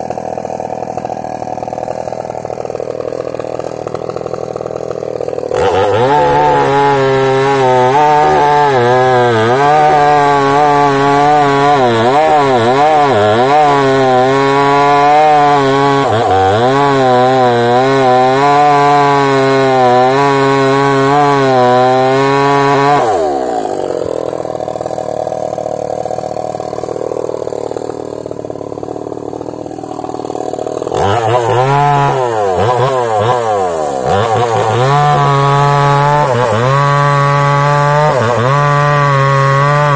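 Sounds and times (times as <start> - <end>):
chainsaw cutting tree: 0.0 - 39.9.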